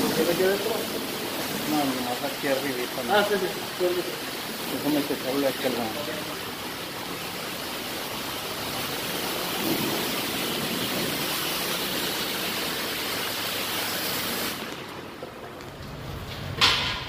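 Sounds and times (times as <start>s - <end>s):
high-pressure water spray hissing: 0.0s - 15.2s.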